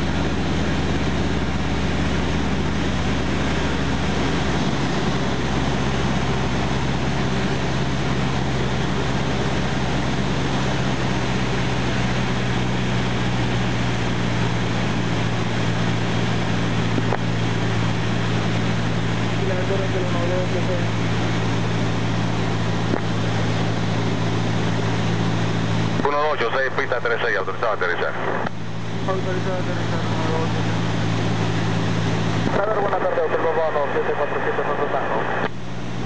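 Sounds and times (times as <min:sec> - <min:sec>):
airplane engine drone: 0:00.0 - 0:36.0.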